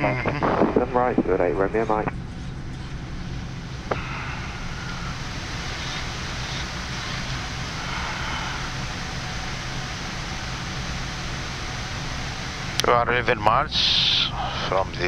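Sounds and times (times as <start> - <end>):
air-conditioning rush: 0.0 - 15.0
low constant hum: 0.0 - 15.0.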